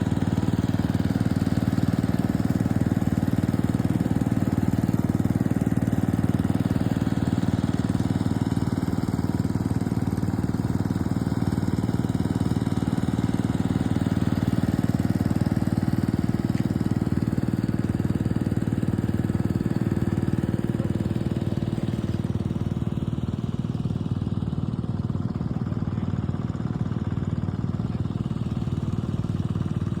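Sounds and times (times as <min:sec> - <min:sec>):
engine-driven water pump running: 0:00.0 - 0:30.0.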